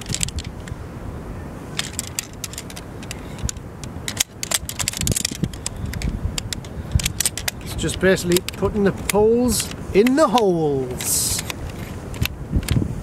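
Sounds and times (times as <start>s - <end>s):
chair poles clinking and rattling: 0.0s - 0.7s, 1.8s - 12.3s.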